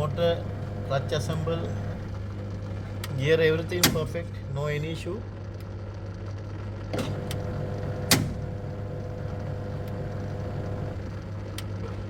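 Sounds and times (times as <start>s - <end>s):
washing machine drain motor: 0.0s - 12.0s.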